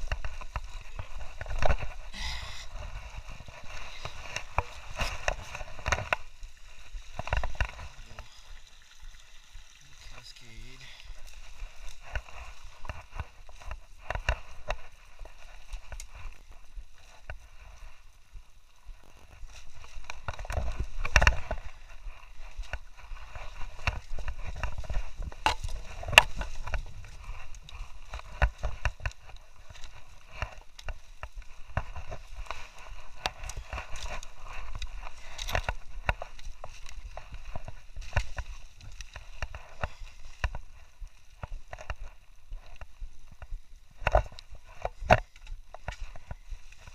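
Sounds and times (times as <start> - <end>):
footsteps crunching on dry ground: 0.0 - 46.9.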